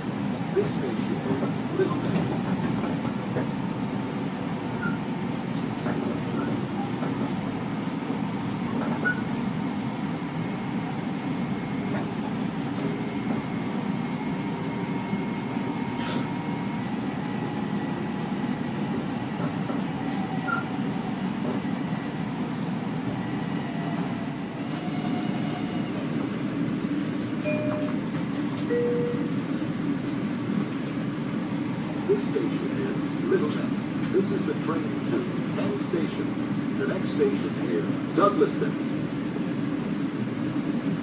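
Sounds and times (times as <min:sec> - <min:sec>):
train rumbling from inside: 0:00.0 - 0:41.0.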